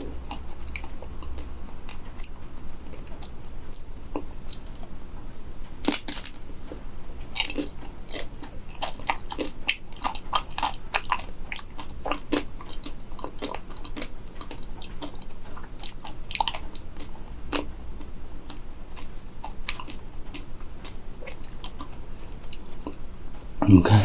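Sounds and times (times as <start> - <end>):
chewing crunchy chocolate shell: 0.0 - 4.8, 5.8 - 6.5, 7.3 - 23.0.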